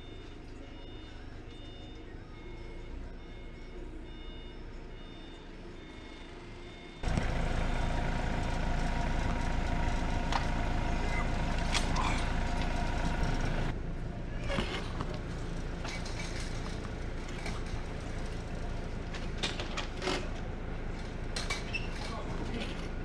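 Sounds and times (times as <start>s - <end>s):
engine-like rumble: 0.0s - 23.0s.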